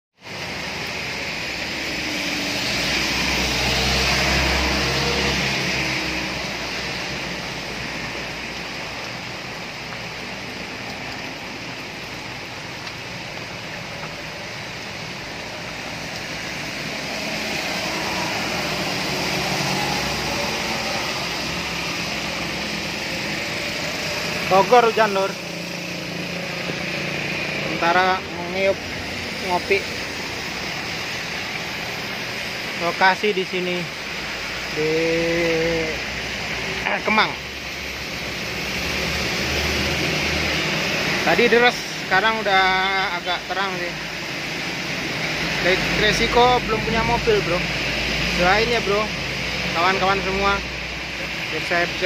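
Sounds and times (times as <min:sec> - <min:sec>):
steady rain: 0:00.2 - 0:52.0
tyres hissing on wet road: 0:00.2 - 0:52.0.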